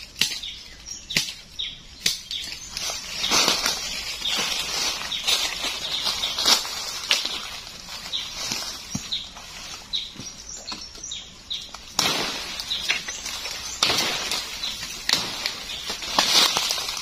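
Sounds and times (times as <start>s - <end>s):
twigs snapping: 0.0s - 11.0s, 11.6s - 17.0s
bird chirping: 0.0s - 17.0s
leaves and branches rustling: 0.0s - 17.0s.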